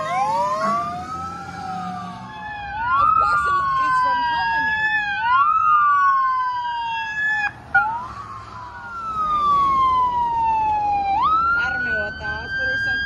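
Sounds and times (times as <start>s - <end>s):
fire truck siren wailing: 0.0s - 13.0s.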